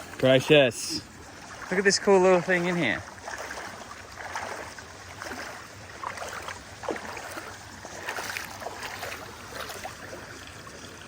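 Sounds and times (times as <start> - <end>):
creek water running over rocks: 0.0 - 11.0
water splashes and gurgles: 0.0 - 11.0.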